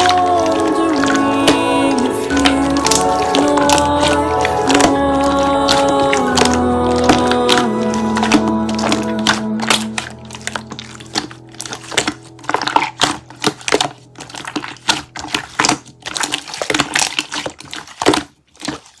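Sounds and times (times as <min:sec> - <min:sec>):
soft background music: 0:00.0 - 0:18.7
slime crackling and popping: 0:00.0 - 0:19.0.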